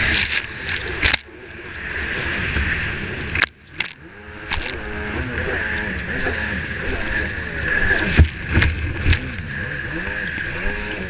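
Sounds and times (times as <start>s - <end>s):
jet ski engine: 0.0s - 11.0s
wind and spray noise: 0.0s - 11.0s.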